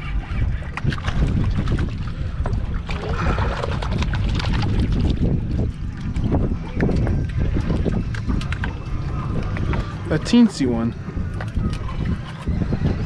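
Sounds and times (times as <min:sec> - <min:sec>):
water sloshing around boat: 0:00.0 - 0:13.0
wind buffeting microphone: 0:00.0 - 0:13.0.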